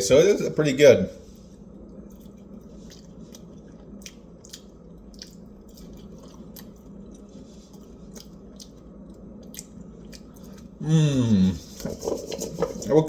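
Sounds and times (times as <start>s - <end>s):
person chewing fries: 1.6s - 12.9s.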